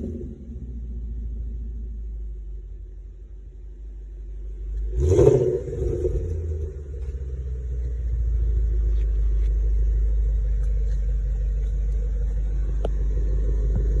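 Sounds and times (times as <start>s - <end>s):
car engine idling deep rumble: 0.0s - 14.0s.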